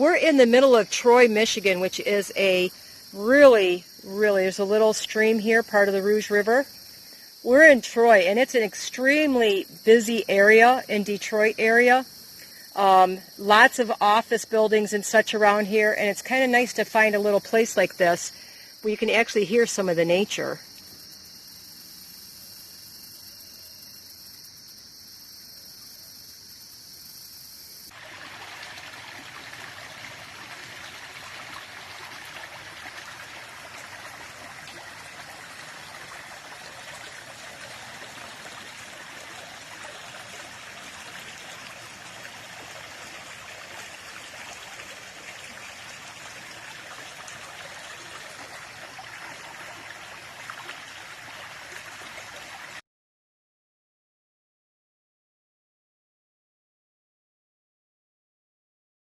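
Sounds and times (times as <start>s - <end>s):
insect chorus: 0.0s - 52.6s
small stream trickling: 0.0s - 52.8s.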